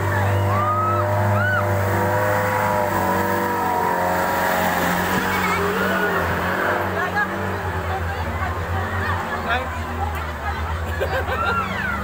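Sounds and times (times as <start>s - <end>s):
diesel truck engine running: 0.0s - 12.0s
water churning around wheels: 0.0s - 12.0s.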